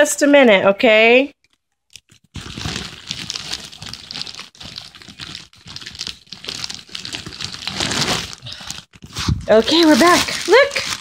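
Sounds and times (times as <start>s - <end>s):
cellophane crinkling: 1.4s - 11.0s.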